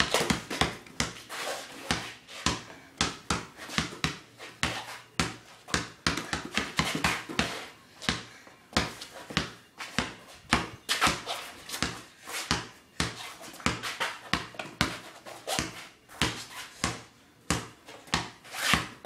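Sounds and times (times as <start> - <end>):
basketball dribbling on concrete: 0.0 - 19.0.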